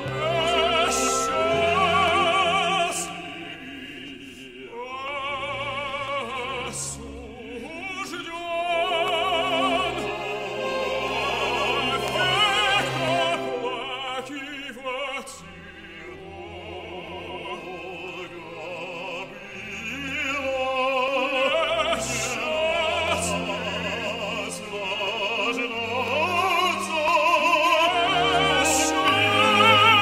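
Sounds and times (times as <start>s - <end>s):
male opera singer with vibrato: 0.0s - 30.0s
symphony orchestra: 0.0s - 30.0s.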